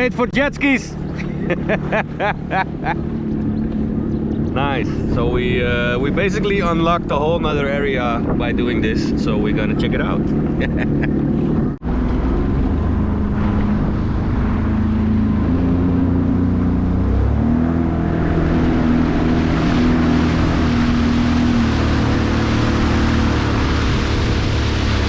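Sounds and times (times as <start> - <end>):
watercraft engine running: 0.0 - 25.0.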